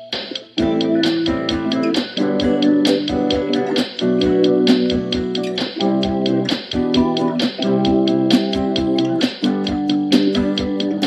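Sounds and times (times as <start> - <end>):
background music with chords: 0.0 - 11.0.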